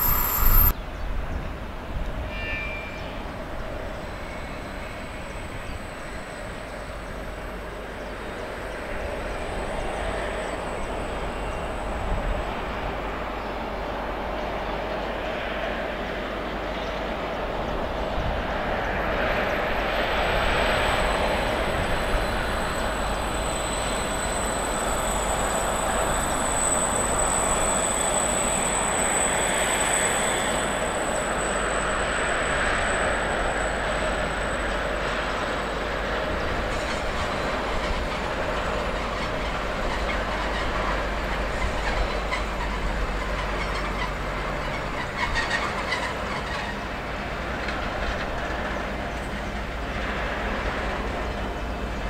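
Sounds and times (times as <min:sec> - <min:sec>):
high wheel squeal: 0:00.0 - 0:00.8, 0:02.2 - 0:16.1, 0:17.6 - 0:52.0
freight train wheels rumbling: 0:00.0 - 0:52.0.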